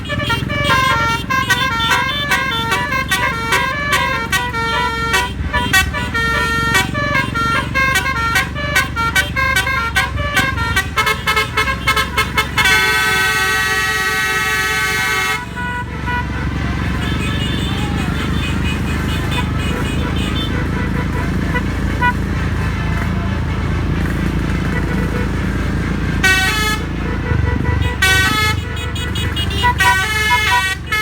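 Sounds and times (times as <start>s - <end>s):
low rumble of engine and traffic: 0.0s - 31.0s
musical air horn melody: 0.0s - 31.0s.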